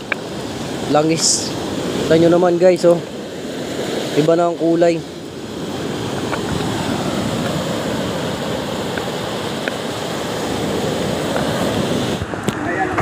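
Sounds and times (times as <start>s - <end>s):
waves breaking on stony beach: 0.0s - 13.0s.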